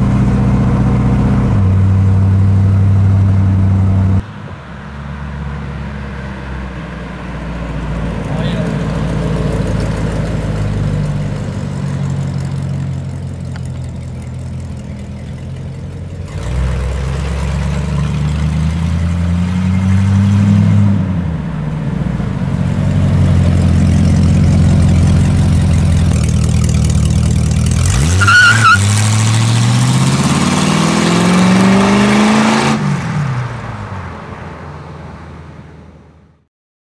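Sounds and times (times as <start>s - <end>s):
engine accelerating: 0.0s - 33.4s.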